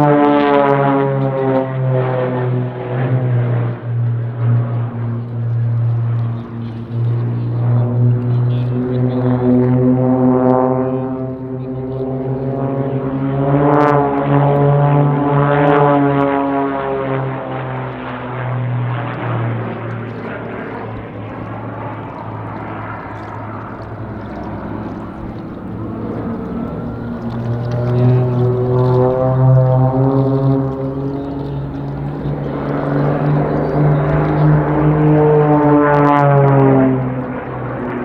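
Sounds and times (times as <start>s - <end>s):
propeller aircraft engines droning: 0.0s - 38.0s.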